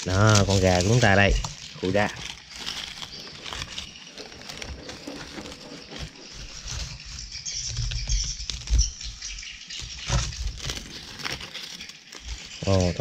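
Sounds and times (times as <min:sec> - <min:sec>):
dry leaves rustling and crinkling: 0:00.0 - 0:13.0.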